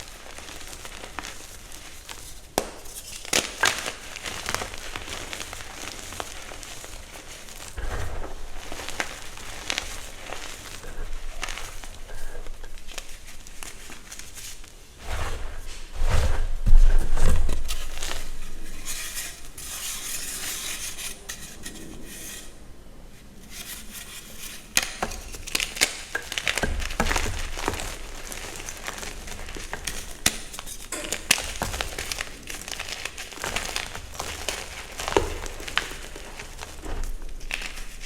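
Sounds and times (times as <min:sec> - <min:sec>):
chalk crunching and crumbling: 0:00.0 - 0:22.5, 0:23.4 - 0:38.0.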